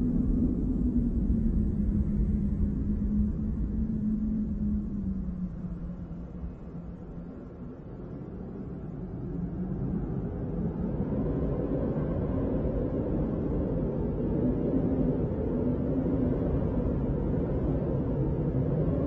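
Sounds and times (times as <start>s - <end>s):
faint hum: 0.0s - 19.0s
low rumbling ambient drone: 0.0s - 19.0s.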